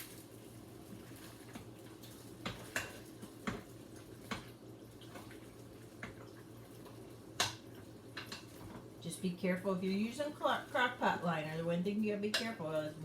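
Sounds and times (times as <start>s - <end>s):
wet stirring of thick food: 0.0s - 13.0s.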